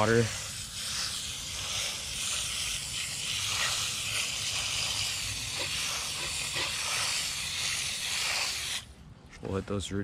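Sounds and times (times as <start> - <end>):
hiss of running water: 0.0 - 9.0.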